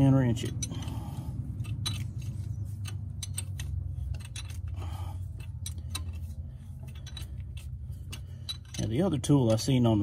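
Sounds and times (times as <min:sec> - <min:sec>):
steady low hum: 0:00.0 - 0:10.0
wrench metallic clicks: 0:00.2 - 0:04.8, 0:05.4 - 0:09.7.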